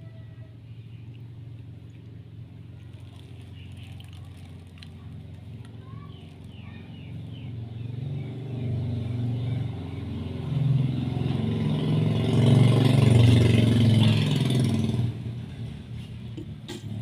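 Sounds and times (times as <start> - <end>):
vehicle engine approaching: 0.0 - 17.0.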